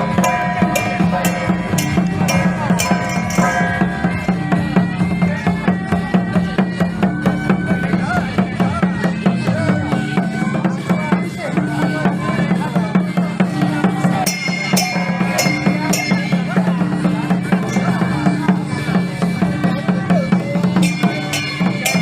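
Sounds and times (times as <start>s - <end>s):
drums beating steadily: 0.0s - 22.0s
sustained melodic tones: 0.0s - 22.0s.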